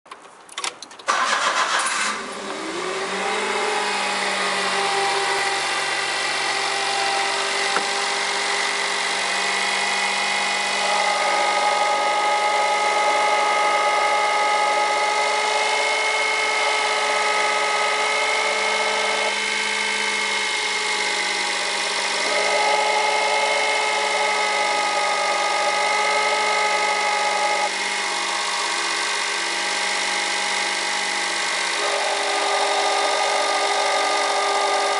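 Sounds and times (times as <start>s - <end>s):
car engine idling: 1.1s - 34.9s
high-pitched alternator whine: 1.2s - 34.9s.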